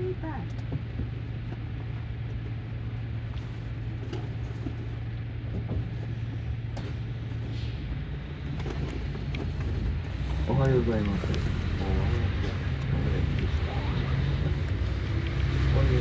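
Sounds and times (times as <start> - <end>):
bus engine hum: 0.0 - 16.0
road noise: 0.0 - 16.0.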